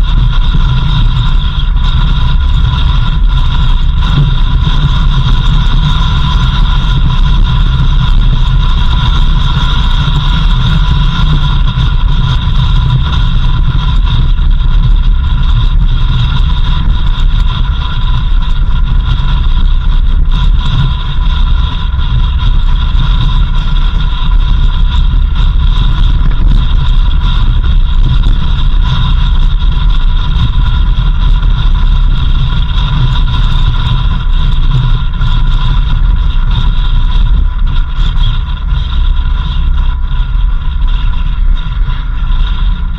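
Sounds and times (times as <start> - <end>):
high-pitched whine: 0.0 - 42.9
vehicle engine and road rumble: 0.0 - 42.9.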